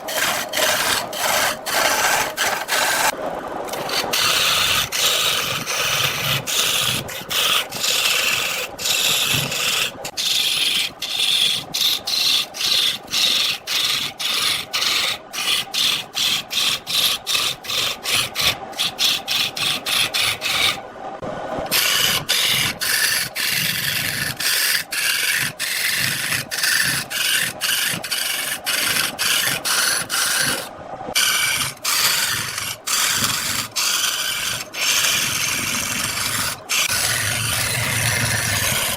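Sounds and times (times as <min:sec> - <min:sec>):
wood rasping on a lathe: 0:00.0 - 0:20.8, 0:21.7 - 0:38.9.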